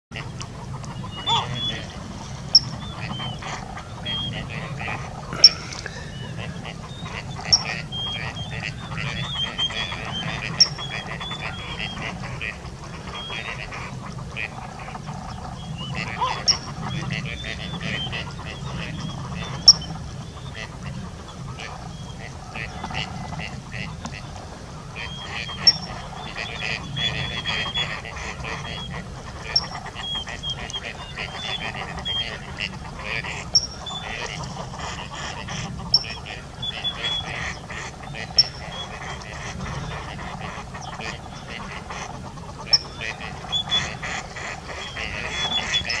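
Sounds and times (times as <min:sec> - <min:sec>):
ducks quacking: 0:00.1 - 0:46.0
steady low rumble: 0:00.1 - 0:46.0.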